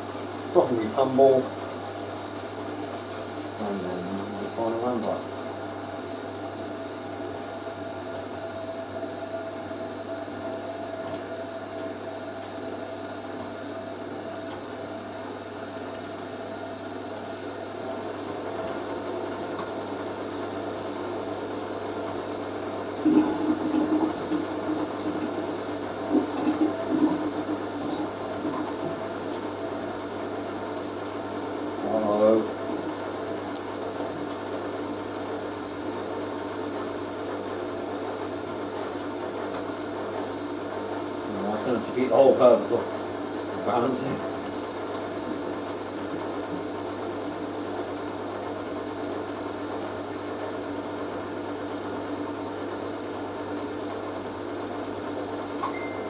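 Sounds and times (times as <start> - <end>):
washing machine motor whine: 0.0 - 56.0
washing machine vibrating: 0.0 - 56.0.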